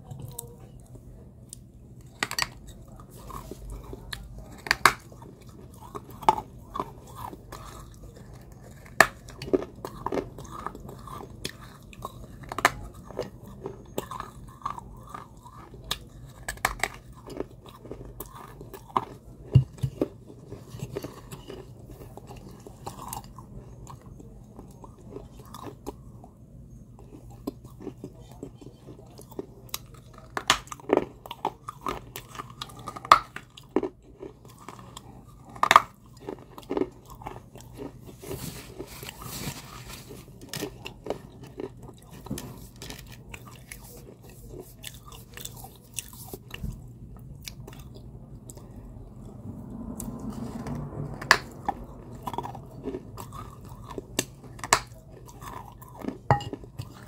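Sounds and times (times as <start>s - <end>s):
crunching and chewing clay pot: 0.0s - 57.0s.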